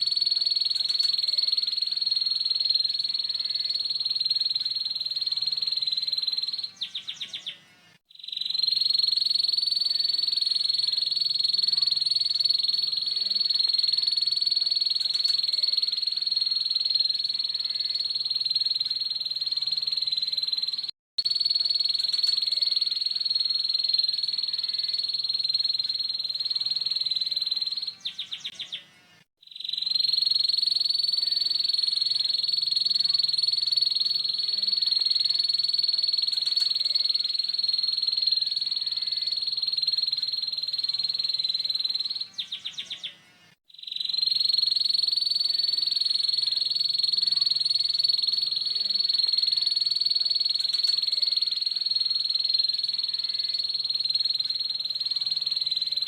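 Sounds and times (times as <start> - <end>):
canary singing buzzing trill: 0.0 - 7.7, 8.3 - 28.9, 29.6 - 56.0.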